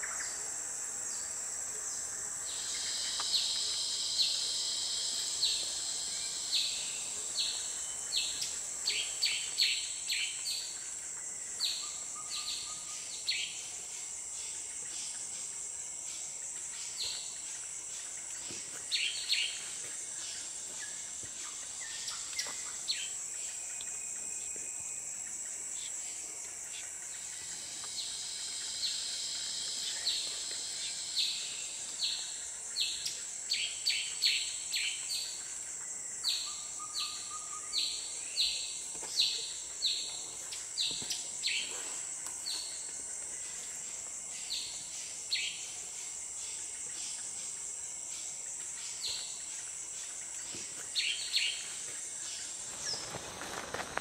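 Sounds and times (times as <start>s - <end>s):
high-pitched insect drone: 0.0s - 54.0s.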